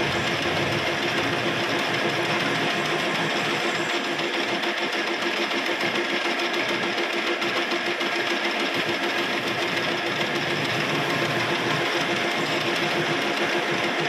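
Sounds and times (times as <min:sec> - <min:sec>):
metal lathe whirring: 0:00.0 - 0:14.0.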